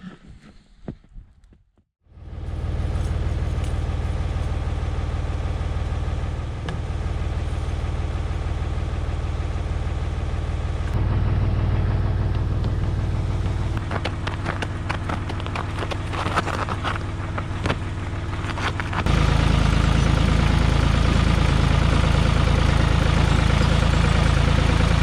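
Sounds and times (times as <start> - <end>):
engine running steadily: 2.1 - 25.0.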